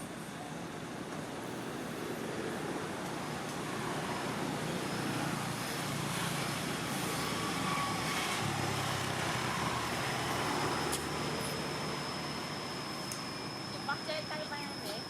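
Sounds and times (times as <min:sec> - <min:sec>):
passing vehicles humming: 0:01.6 - 0:15.0.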